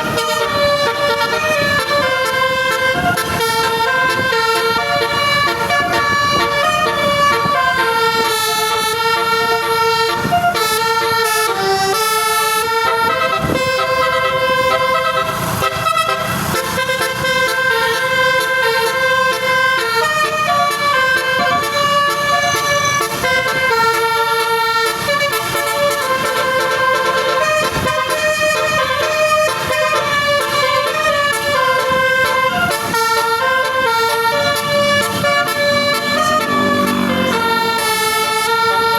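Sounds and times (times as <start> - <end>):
bus musical horn playing: 0.0 - 38.9.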